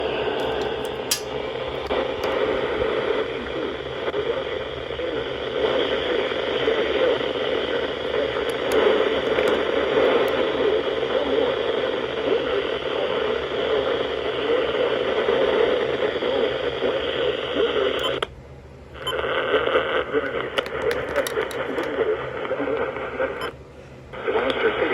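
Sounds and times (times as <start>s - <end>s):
radio static hiss: 0.1s - 18.3s, 19.0s - 23.6s, 24.2s - 24.9s
muffled radio audio: 1.8s - 18.3s, 19.0s - 23.6s, 24.2s - 24.9s.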